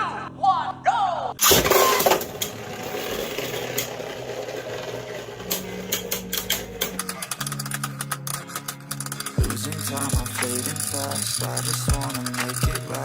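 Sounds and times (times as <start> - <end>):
spinning tops clicking and scraping: 1.4 - 13.0.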